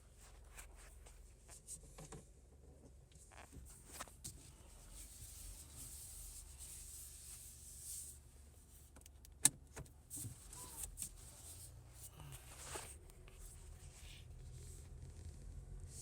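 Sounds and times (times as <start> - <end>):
soft rustle: 0.0 - 2.2, 3.1 - 9.0, 10.1 - 16.0
road rumble inside car: 0.0 - 16.0.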